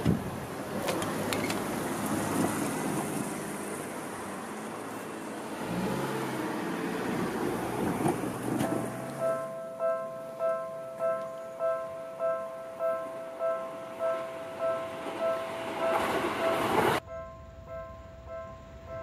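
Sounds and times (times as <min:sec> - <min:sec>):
electric train rumbling on rails: 0:00.0 - 0:19.0.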